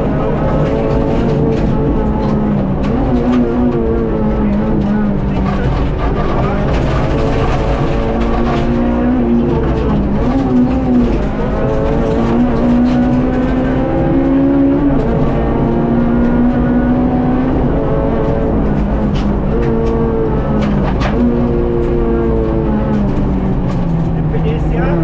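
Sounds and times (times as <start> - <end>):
car engine revving: 0.0 - 25.0
low road rumble: 0.0 - 25.0.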